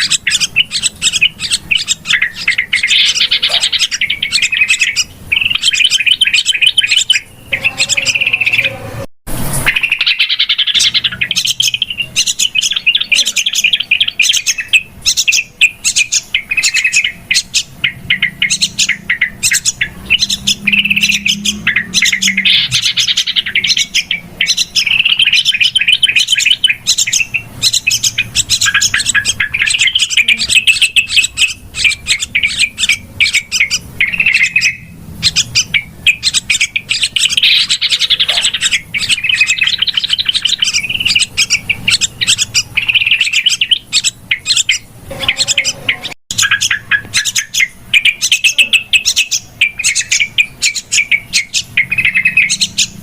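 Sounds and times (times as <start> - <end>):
bulbuls chattering: 0.0 - 53.0.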